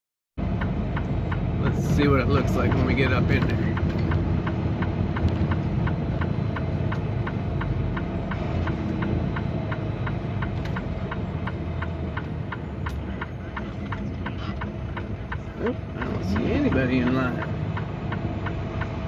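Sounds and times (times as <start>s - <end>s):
diesel truck engine running: 0.4s - 19.0s
sharp ticking: 0.4s - 19.0s.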